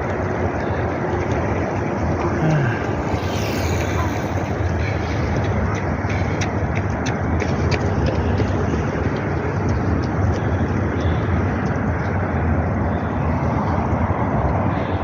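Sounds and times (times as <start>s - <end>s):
wheels clicking on track: 0.0s - 12.9s
train crossing steel bridge: 0.0s - 15.0s.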